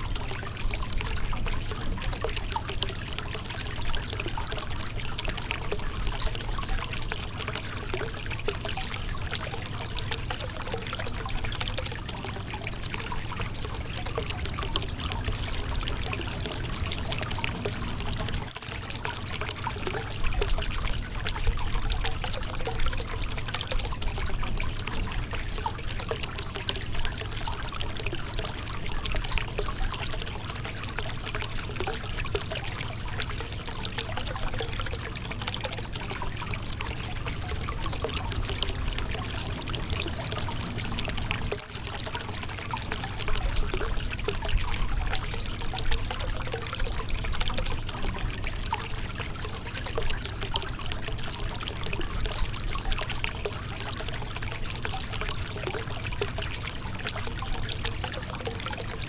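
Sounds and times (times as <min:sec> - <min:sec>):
water splashing and gurgling: 0:00.0 - 0:59.0.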